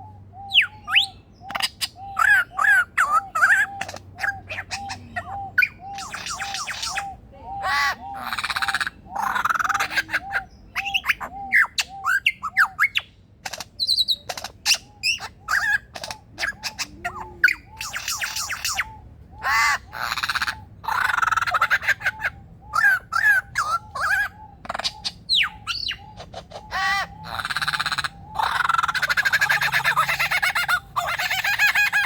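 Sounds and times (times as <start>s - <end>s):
harsh rasping bird calls: 0.0s - 32.0s
lyrebird singing: 0.0s - 32.0s.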